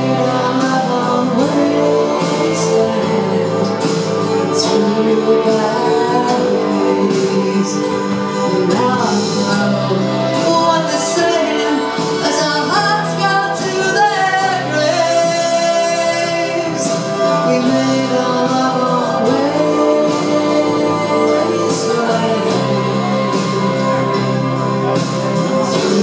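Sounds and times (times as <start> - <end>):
instrumental backing music: 0.0 - 26.0
woman singing into microphone: 0.0 - 26.0.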